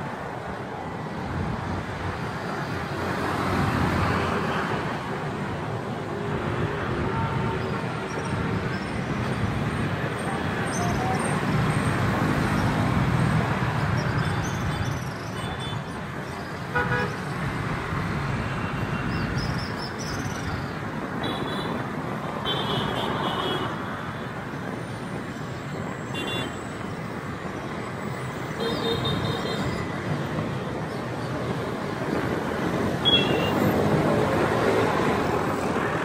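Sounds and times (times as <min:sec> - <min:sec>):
vehicle engines passing: 0:00.0 - 0:22.4, 0:23.1 - 0:36.0.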